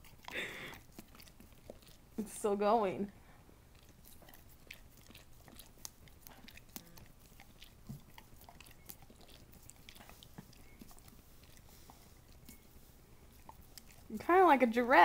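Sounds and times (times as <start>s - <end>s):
dog licking wet clicks: 0.0s - 2.4s, 3.8s - 14.9s.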